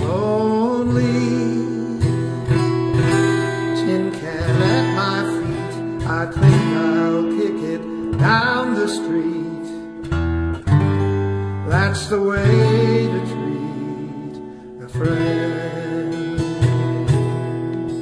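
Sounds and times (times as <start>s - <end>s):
slow instrumental guitar music: 0.0s - 18.0s.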